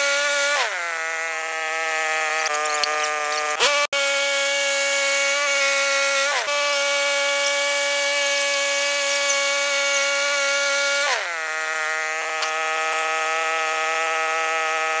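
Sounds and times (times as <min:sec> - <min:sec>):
bandsaw mill engine cutting log: 0:00.0 - 0:15.0.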